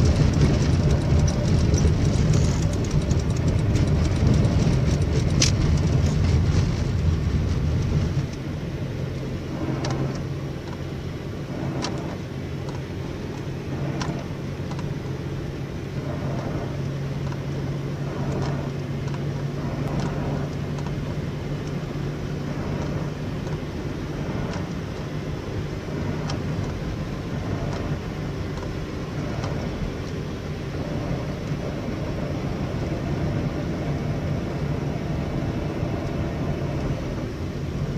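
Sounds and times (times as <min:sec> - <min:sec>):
road and engine rumble: 0:00.0 - 0:37.9.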